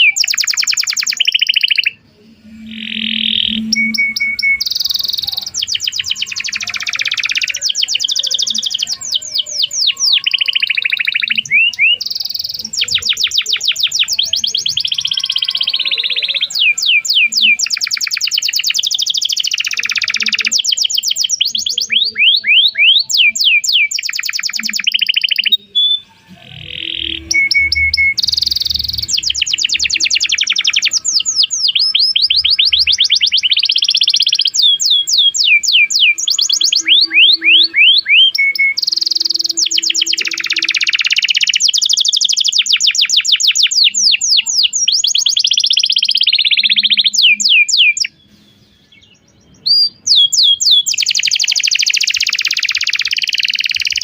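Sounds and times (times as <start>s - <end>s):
canary singing chirps and trills: 0.0s - 54.0s.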